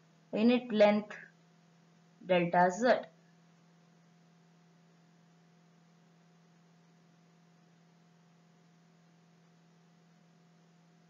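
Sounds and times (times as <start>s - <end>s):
faint steady hum: 0.0s - 11.0s
low hiss: 0.0s - 11.0s.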